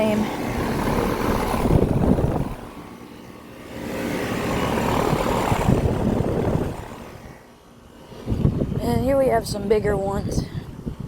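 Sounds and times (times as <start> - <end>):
air conditioner fan whooshing: 0.0 - 11.0.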